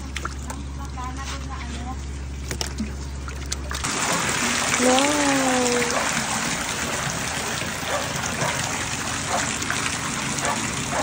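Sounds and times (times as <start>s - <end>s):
water splashing in tub: 0.0s - 11.0s.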